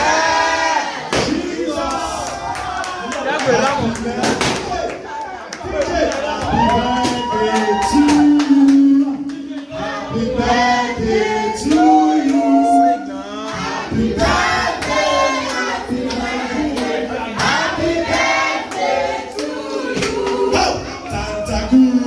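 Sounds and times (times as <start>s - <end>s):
group of voices singing: 0.0s - 2.2s, 6.4s - 22.0s.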